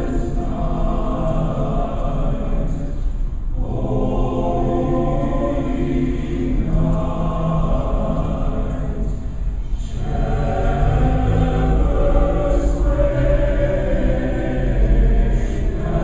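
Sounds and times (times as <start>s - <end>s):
men's chorus singing: 0.0s - 16.0s.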